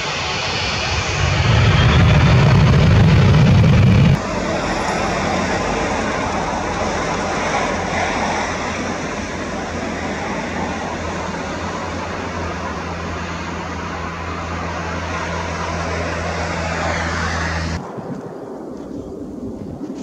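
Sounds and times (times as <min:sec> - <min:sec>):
distant jet engines: 0:00.0 - 0:20.0.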